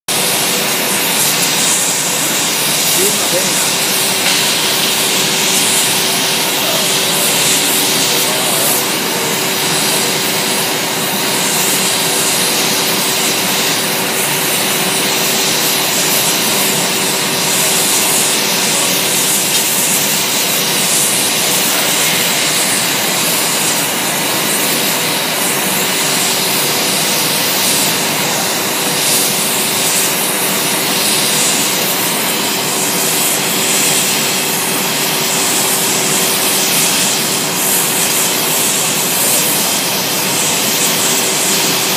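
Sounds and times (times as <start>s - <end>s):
gas burner jets rushing: 0.1s - 41.9s
steady hum: 0.1s - 41.9s.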